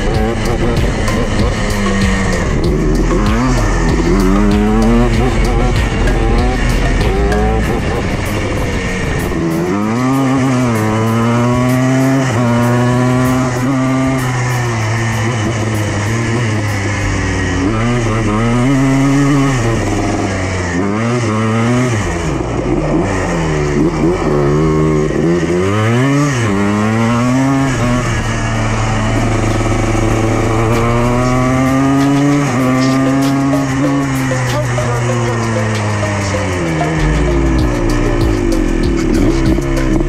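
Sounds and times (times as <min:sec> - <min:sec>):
two-stroke engine revving: 0:00.0 - 0:40.0.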